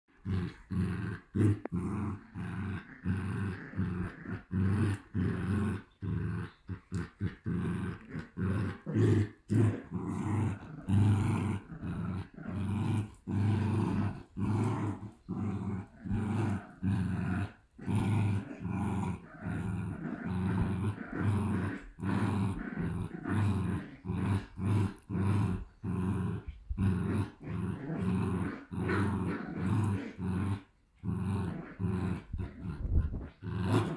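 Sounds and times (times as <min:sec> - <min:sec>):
dogs play-growling: 0:00.1 - 0:33.9.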